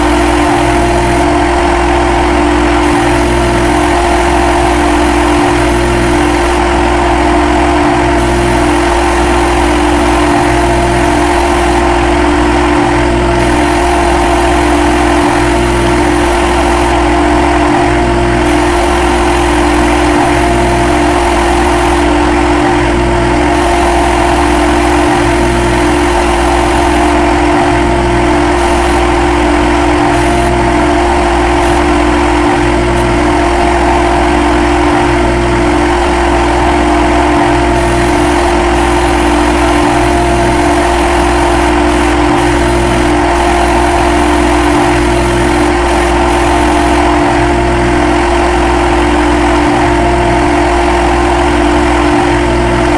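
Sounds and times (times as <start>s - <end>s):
lathe machine hum: 0.0s - 52.9s.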